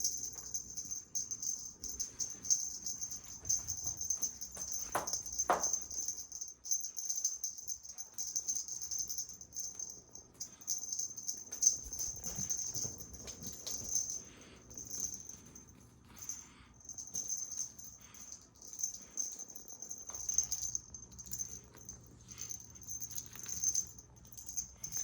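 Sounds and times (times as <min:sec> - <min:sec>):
cat toy jingling and rattling: 0:00.0 - 0:25.0.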